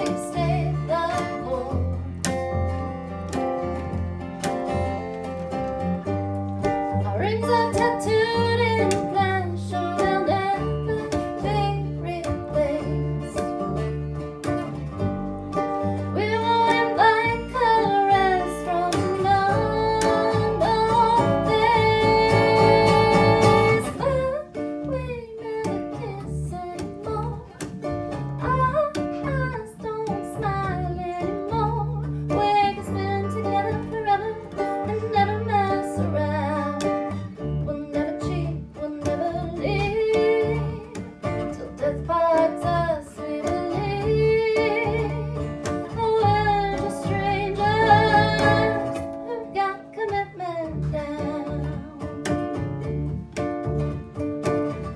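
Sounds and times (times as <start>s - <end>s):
woman singing: 0.0s - 2.1s, 7.0s - 13.8s, 15.9s - 52.6s
acoustic guitar: 0.0s - 54.9s
plucked double bass: 0.0s - 54.9s
strummed ukulele: 0.0s - 54.9s.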